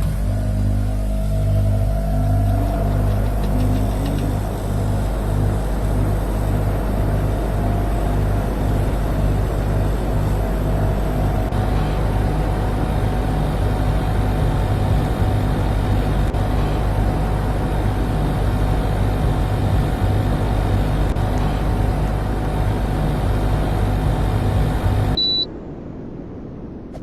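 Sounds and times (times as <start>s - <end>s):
air conditioner humming: 0.0s - 25.5s.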